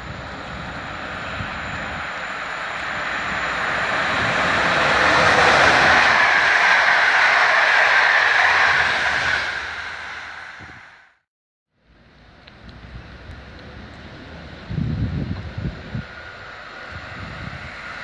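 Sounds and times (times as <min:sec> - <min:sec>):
passenger train passing: 0:00.0 - 0:11.2, 0:11.9 - 0:18.0.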